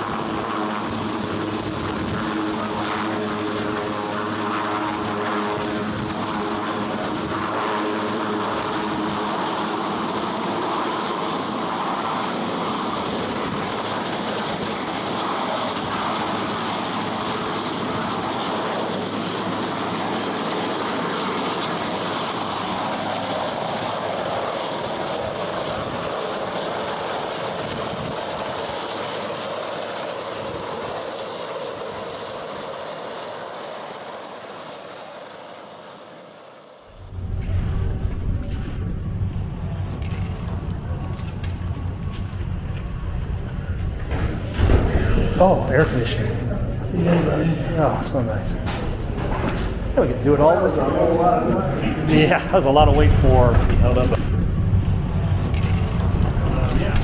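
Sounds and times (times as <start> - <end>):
helicopter rotor noise: 0.0 - 57.0.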